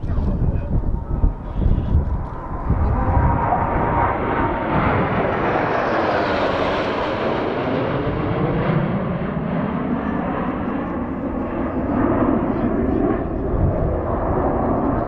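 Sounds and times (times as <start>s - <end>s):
fighter jets roaring overhead: 0.0s - 15.0s.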